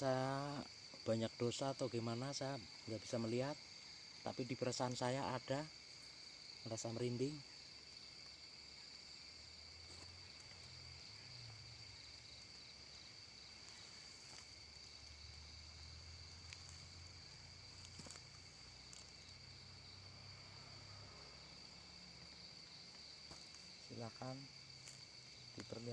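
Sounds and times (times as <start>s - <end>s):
night insects chorus: 0.0s - 25.9s.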